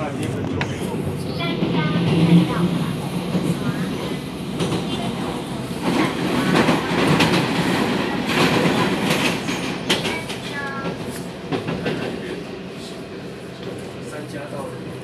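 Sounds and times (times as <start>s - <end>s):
train carriage rumble and rattle: 0.0s - 15.0s.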